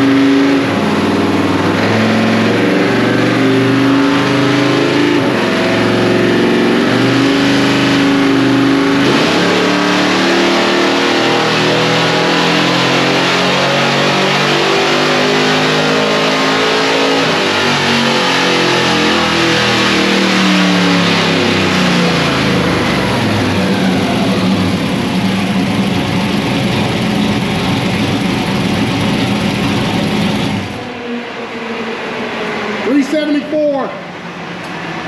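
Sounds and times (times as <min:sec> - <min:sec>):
pickup engine revving on dyno: 0:00.0 - 0:33.0.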